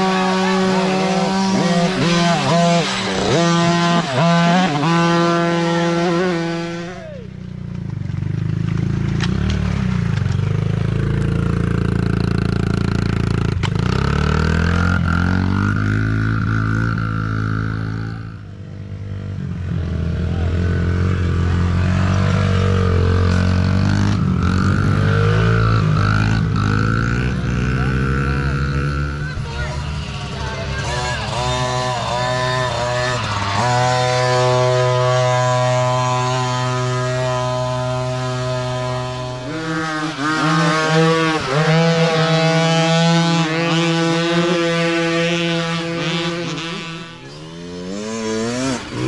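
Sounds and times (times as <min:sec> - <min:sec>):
high-pitched dirt bike revving: 0:00.0 - 0:07.6, 0:08.2 - 0:49.0
lower dirt bike engine revving: 0:00.0 - 0:49.0.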